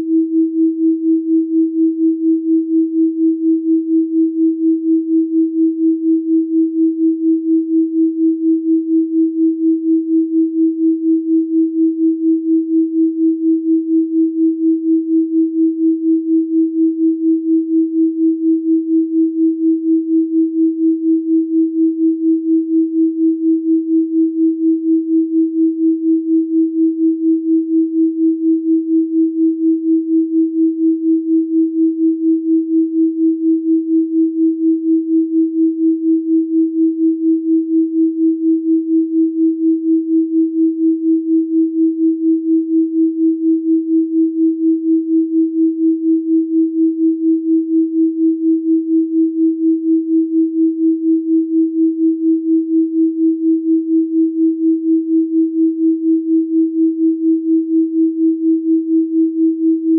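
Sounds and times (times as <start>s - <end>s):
pulsing sine tone: 0.0s - 59.9s.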